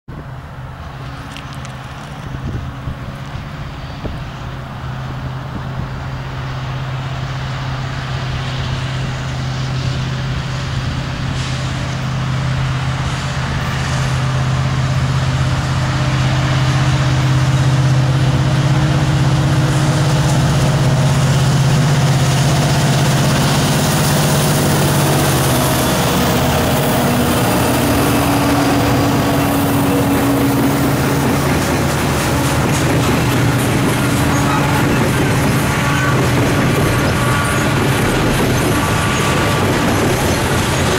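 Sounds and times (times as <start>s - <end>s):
freight cars rolling on rails: 0.1s - 40.9s
locomotive engine drone: 0.1s - 40.9s.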